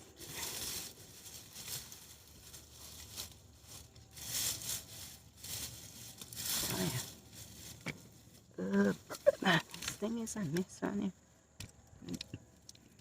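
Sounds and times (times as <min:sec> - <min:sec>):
rustling of vines and leaves: 0:00.0 - 0:13.0.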